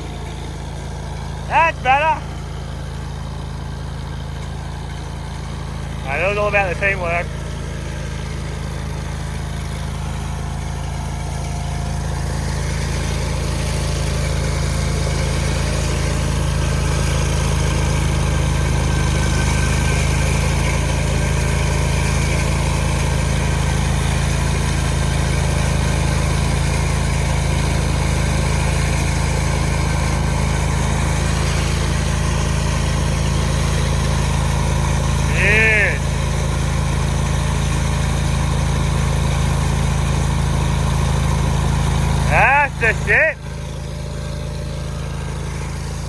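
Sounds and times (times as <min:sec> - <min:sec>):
engine droning: 0:00.0 - 0:46.0.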